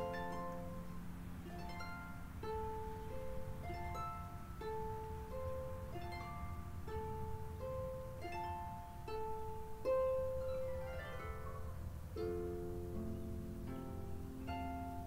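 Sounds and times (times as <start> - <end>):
harp playing plucked notes: 0.0 - 15.0.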